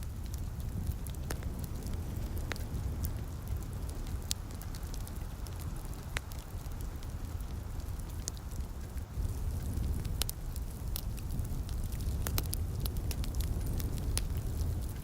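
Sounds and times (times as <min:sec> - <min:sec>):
light rain hissing: 0:00.0 - 0:15.0
wood fire crackling: 0:00.0 - 0:15.0.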